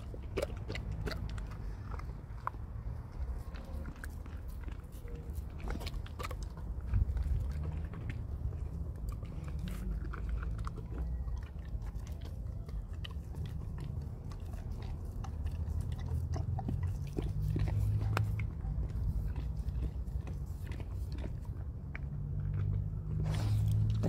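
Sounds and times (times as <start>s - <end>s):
dog crunching frozen fruit: 0.0s - 24.0s.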